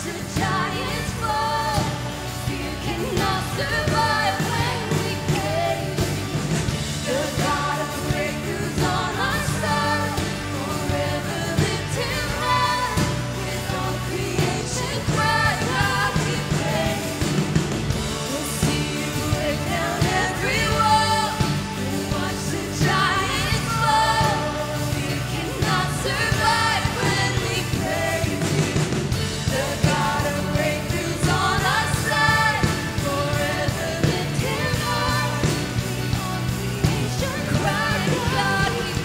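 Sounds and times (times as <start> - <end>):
people singing: 0.0 - 39.0
sustained bass: 0.0 - 39.0
worship band playing: 0.0 - 39.0.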